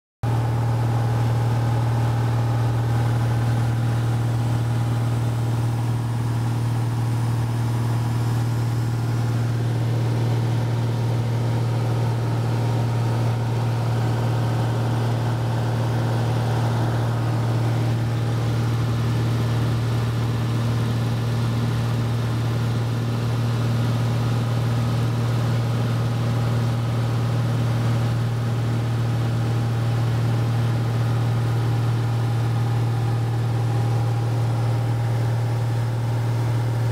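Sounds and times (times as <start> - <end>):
light aircraft engine droning: 0.2 - 36.9.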